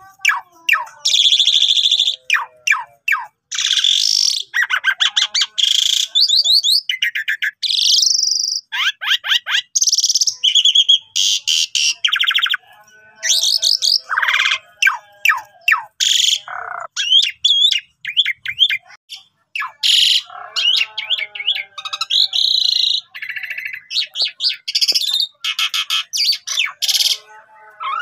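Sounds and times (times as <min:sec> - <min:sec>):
starling singing: 0:00.0 - 0:28.0.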